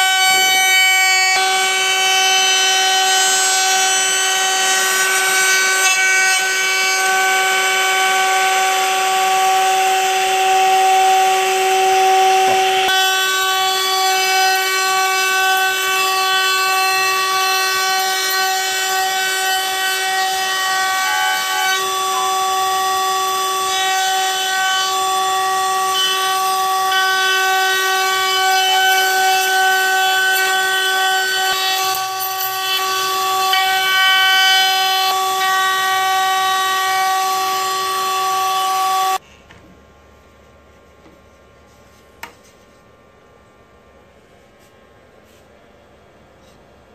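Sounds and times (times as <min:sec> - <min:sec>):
router spindle whining: 0:00.0 - 0:39.2.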